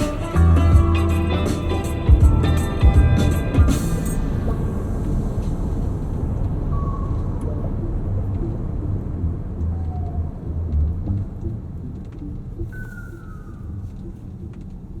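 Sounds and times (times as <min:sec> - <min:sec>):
low road rumble in car cabin: 0:00.0 - 0:15.0.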